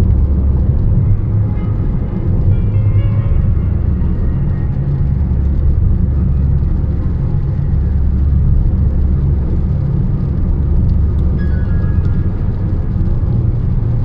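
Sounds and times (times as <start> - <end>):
car driving on highway: 0.0 - 14.0.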